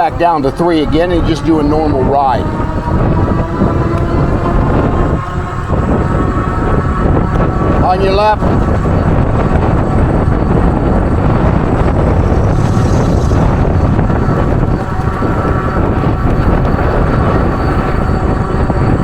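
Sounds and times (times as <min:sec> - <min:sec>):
bike tyre road noise: 0:00.0 - 0:19.0
wind noise on microphone: 0:00.0 - 0:19.0.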